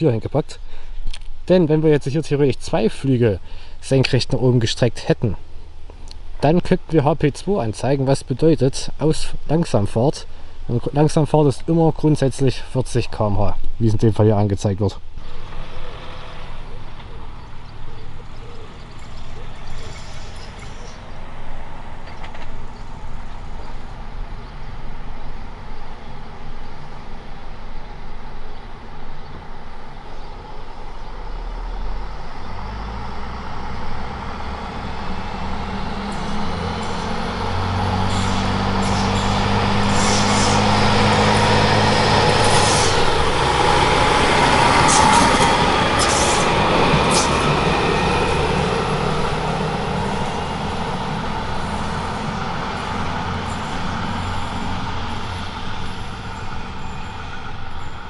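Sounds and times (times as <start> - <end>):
diesel railcar engine passing: 0.0 - 58.0.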